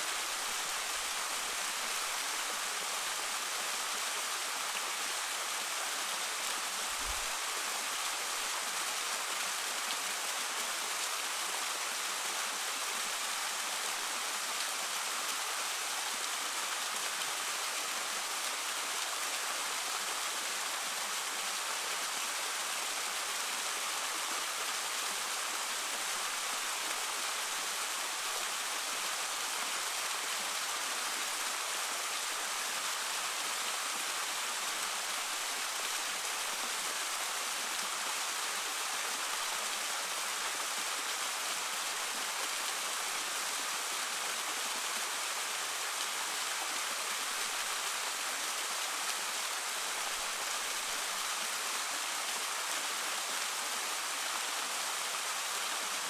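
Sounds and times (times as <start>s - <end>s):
stream water flowing: 0.0s - 56.0s.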